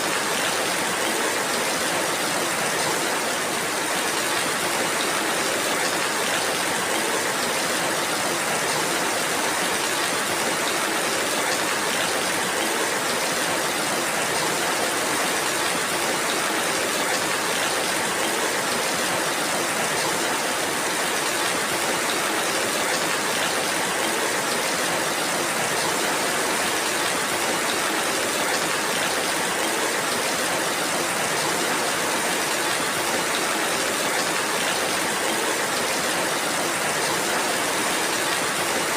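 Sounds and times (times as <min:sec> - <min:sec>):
rain falling in forest: 0:00.0 - 0:38.9.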